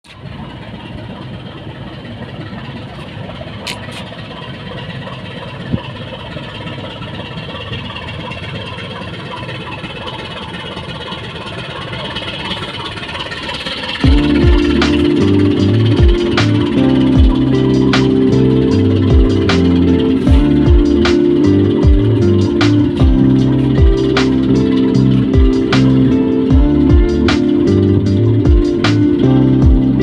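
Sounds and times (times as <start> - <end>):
tugboat engines droning: 0.0 - 30.0.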